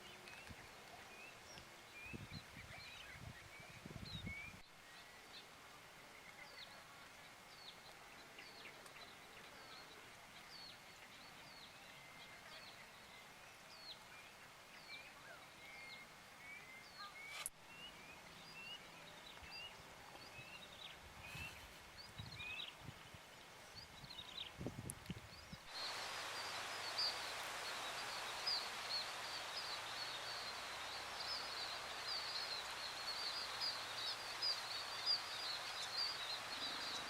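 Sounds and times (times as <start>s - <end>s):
quiet outdoor ambience: 0.0s - 37.0s.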